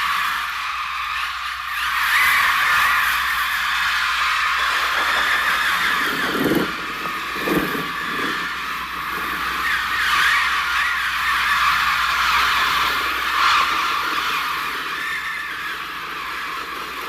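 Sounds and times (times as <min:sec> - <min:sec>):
electronic shrill warbling cries: 0:02.0 - 0:15.8.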